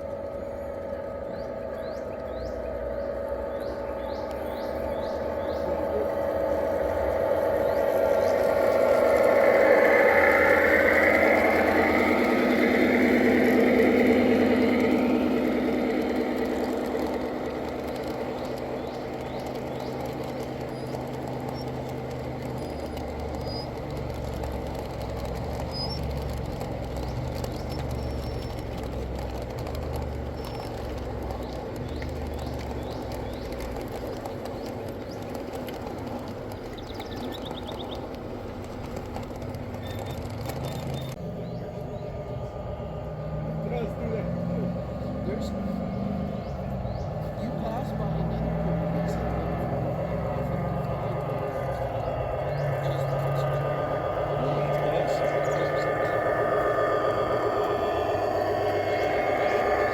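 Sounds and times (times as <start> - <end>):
model train running on track: 0.0 - 59.9.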